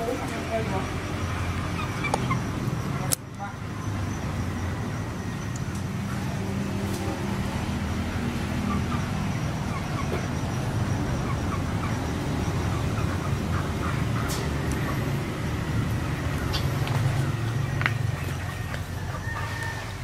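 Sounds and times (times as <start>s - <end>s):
low engine or traffic rumble: 0.0s - 20.0s.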